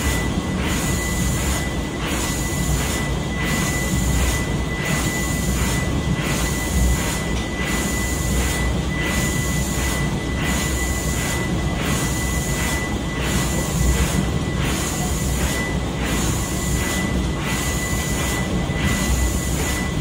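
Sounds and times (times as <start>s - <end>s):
high whine: 0.0s - 20.0s
steam engine running slowly: 0.0s - 20.0s.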